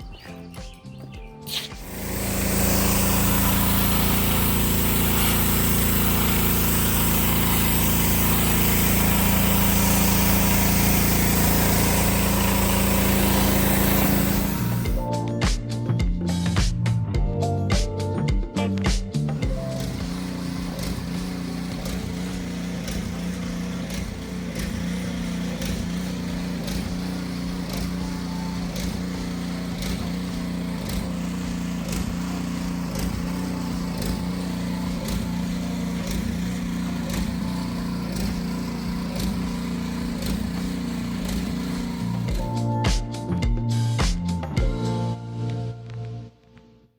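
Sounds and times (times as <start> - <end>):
small engine running: 0.0 - 44.8.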